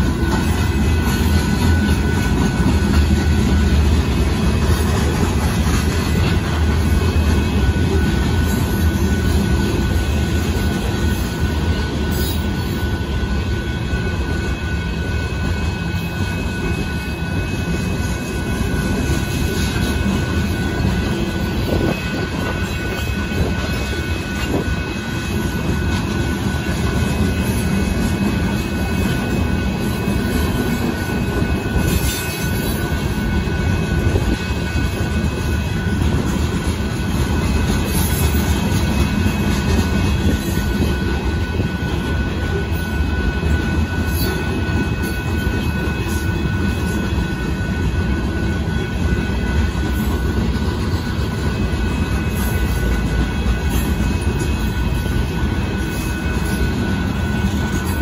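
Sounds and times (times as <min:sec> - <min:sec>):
train cars rolling past: 0:00.0 - 0:58.0.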